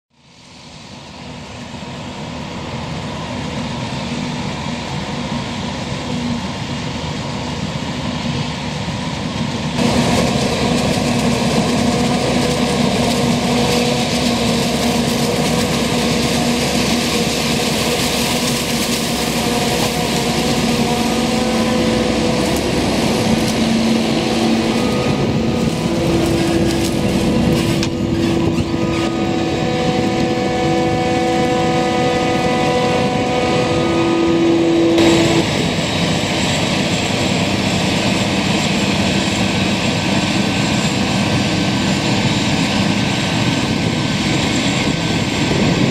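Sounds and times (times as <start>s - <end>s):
diesel engines under load: 0.5s - 45.9s.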